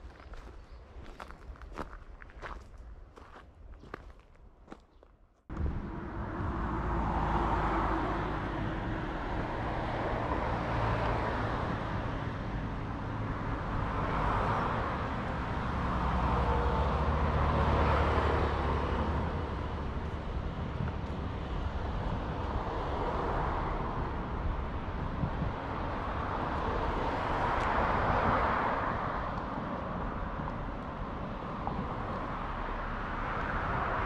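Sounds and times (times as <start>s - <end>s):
road traffic engine hum: 5.4s - 34.0s
cars passing: 5.5s - 34.0s.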